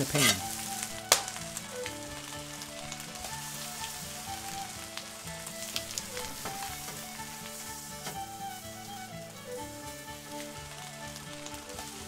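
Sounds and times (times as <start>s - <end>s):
bread sizzling in a pan: 0.0s - 12.0s.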